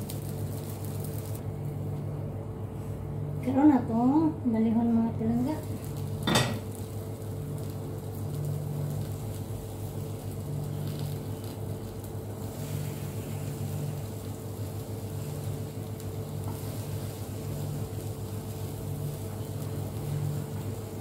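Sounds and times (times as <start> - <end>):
food sizzling in a pan: 0.0 - 1.4, 5.4 - 21.0
steady low hum: 0.0 - 21.0.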